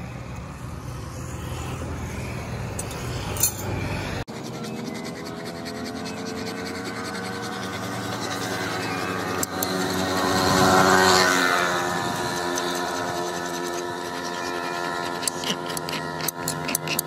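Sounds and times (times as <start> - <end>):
motor vehicle passing: 0.0 - 17.0
file scraping steel blade: 2.7 - 17.0.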